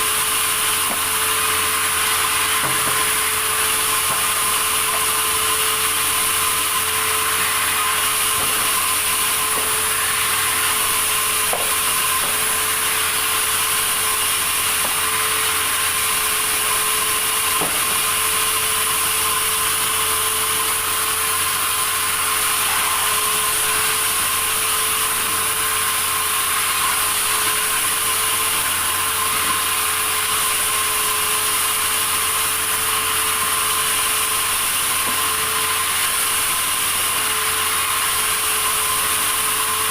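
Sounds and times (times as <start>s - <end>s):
saw running through wood: 0.0s - 39.9s.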